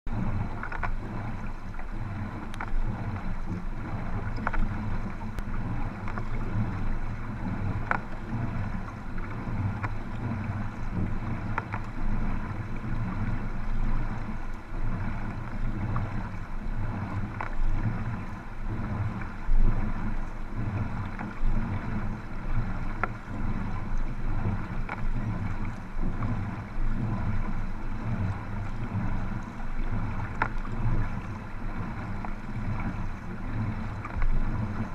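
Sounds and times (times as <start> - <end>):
water sloshing from paddling: 0.1 - 34.9.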